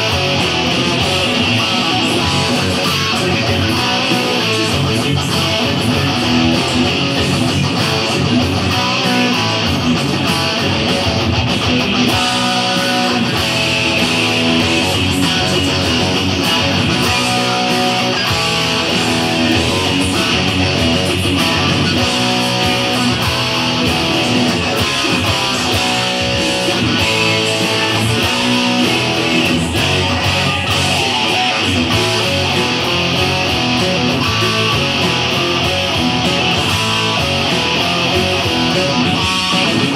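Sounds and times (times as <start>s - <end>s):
electric guitar playing rock: 0.0s - 39.9s
rock band recording: 0.0s - 39.9s.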